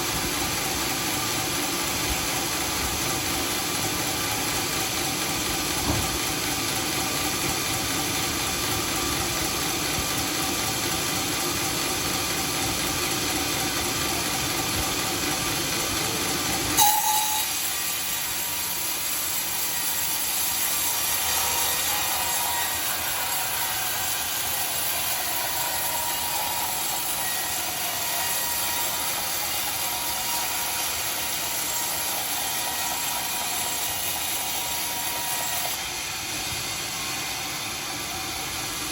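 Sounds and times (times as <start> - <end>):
sawmill cutting wood: 0.0 - 38.9.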